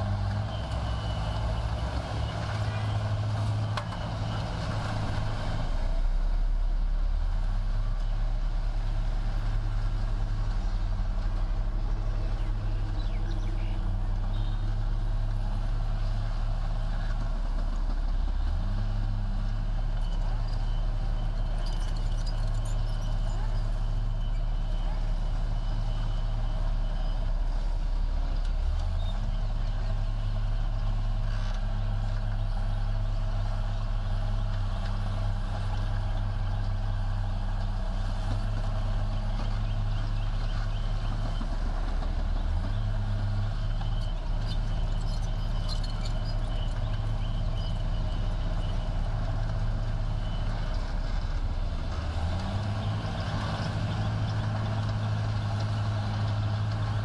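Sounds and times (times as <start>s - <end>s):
diesel engine of construction machine: 0.0s - 57.0s.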